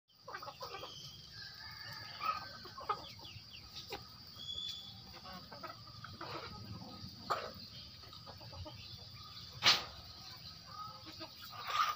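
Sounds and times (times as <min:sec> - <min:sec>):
chickens clucking: 0:00.1 - 0:11.9.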